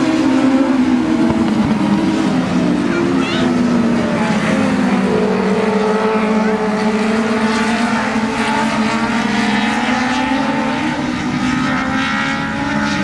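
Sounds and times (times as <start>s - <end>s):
race car engines at high revs: 0.0s - 13.0s.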